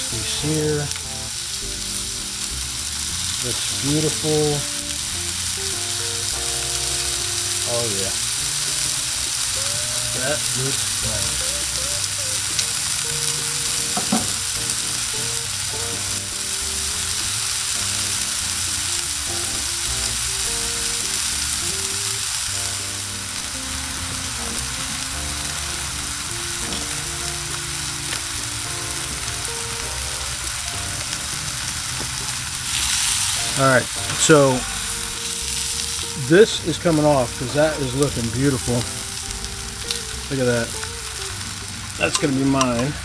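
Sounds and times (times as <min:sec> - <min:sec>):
steaks sizzling on a hot griddle: 0:00.0 - 0:43.0.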